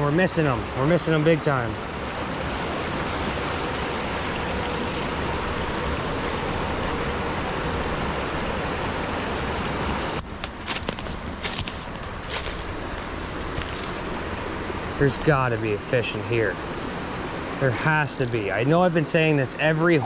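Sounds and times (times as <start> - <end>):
creek running over stones: 0.0 - 20.0.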